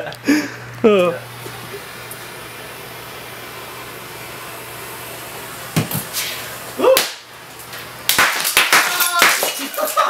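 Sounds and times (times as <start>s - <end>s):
blowtorch hissing: 0.0s - 10.0s.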